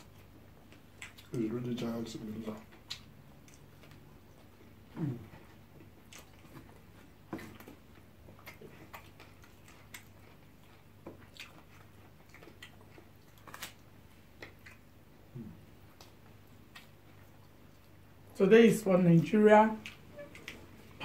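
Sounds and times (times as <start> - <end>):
quiet chewing: 0.0 - 18.4, 19.2 - 21.0.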